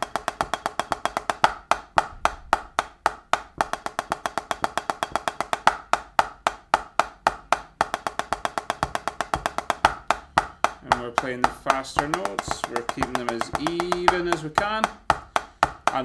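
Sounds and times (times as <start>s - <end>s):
snare drum hits: 0.0s - 16.0s.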